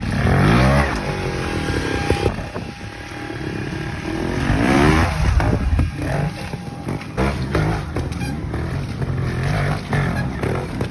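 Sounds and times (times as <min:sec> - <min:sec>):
motorbike engine revving: 0:00.0 - 0:10.9.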